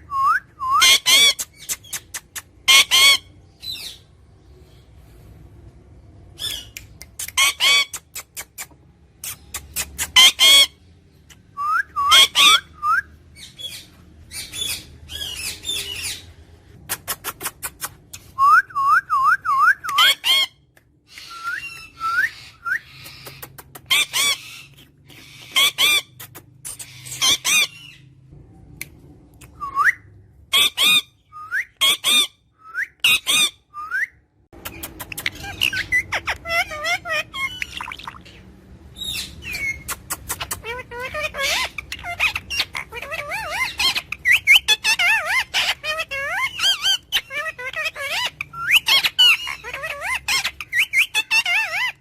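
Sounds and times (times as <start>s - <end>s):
parrot squawking and whistling: 0.0s - 4.0s, 6.4s - 16.4s, 17.1s - 28.0s, 29.5s - 52.0s.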